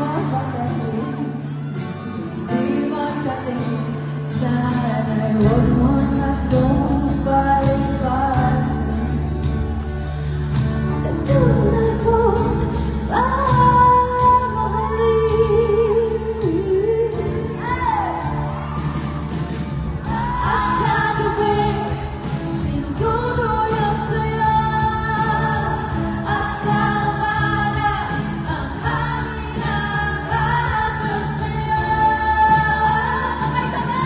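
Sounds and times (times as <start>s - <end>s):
woman singing: 0.0s - 9.6s, 11.0s - 18.8s, 20.0s - 34.0s
acoustic guitars: 0.0s - 34.0s.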